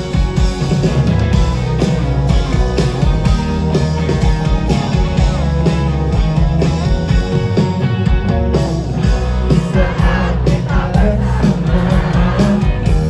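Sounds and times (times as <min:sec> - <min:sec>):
electric guitar: 0:00.0 - 0:13.0
live rock band playing: 0:00.0 - 0:13.0.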